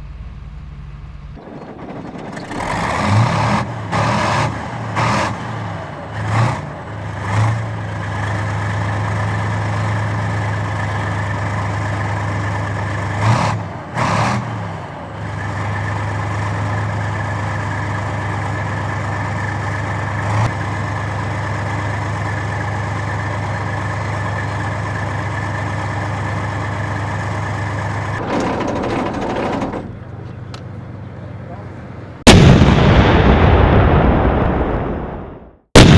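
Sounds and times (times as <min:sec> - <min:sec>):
tank engine droning: 0:00.0 - 0:35.9.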